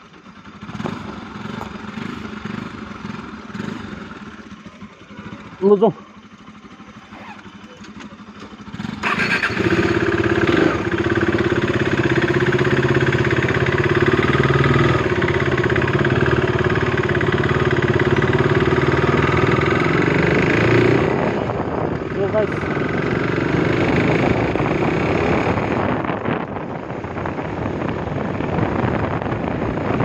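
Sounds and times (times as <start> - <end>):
motorcycle engine starting and running: 0.0 - 30.0.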